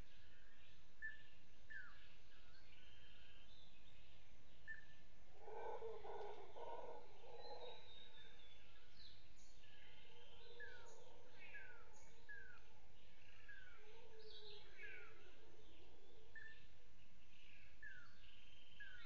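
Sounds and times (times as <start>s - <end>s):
high scattered bird calls: 0.0s - 19.0s.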